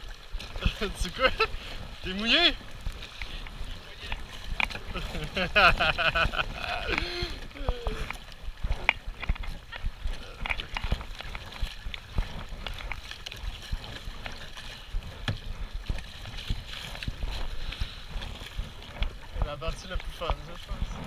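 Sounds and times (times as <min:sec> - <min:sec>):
river water rushing: 0:00.0 - 0:19.3
paddle splashes: 0:00.0 - 0:21.0.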